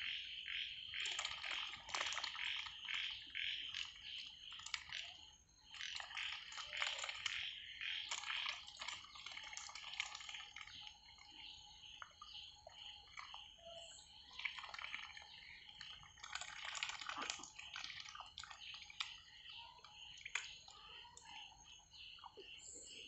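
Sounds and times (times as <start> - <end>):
ducks dabbling in muddy water: 0.0 - 23.0.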